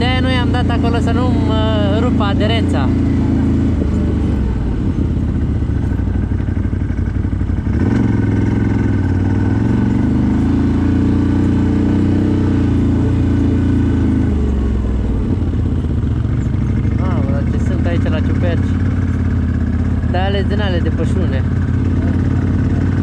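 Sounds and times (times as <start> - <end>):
atv engine revving: 0.0 - 23.0.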